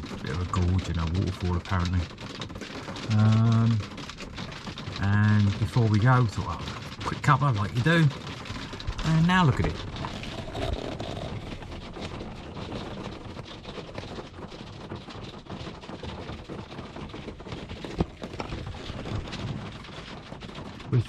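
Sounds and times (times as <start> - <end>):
heavy rain drumming on roof: 0.0 - 21.0.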